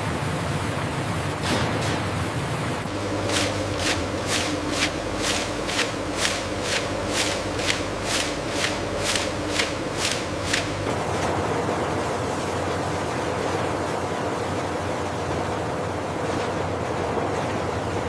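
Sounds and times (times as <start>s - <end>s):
processing machinery humming: 0.0s - 18.0s.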